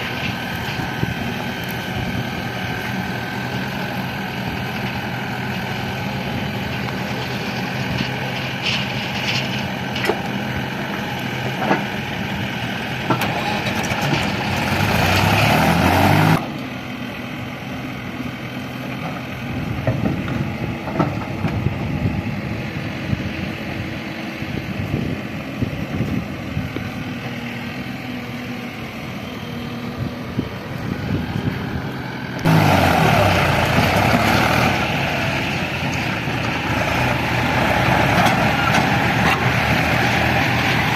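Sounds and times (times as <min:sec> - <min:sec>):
diesel machinery engine running: 0:00.0 - 0:40.9.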